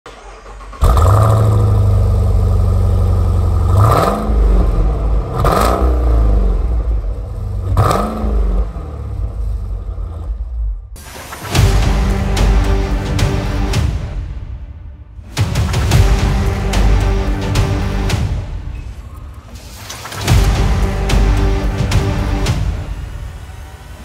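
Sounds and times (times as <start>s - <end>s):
car engine idling and revving: 0.0s - 14.0s, 15.3s - 24.0s.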